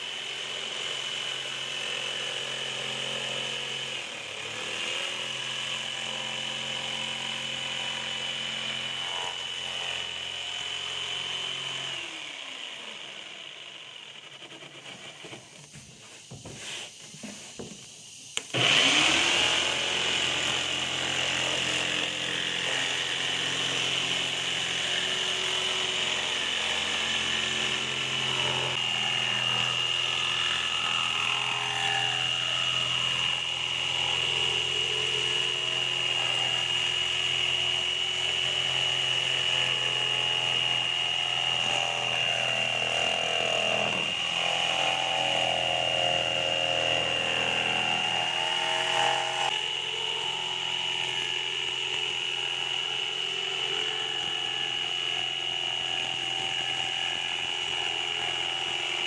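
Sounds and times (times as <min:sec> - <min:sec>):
electric power tool whining: 0:00.0 - 0:59.0.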